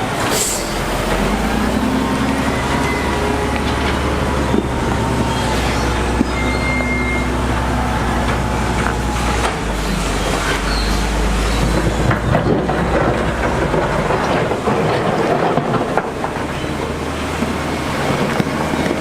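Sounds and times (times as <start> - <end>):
clatter and rattle of tracks: 0.0 - 19.0
construction machinery engine drone: 0.0 - 19.0.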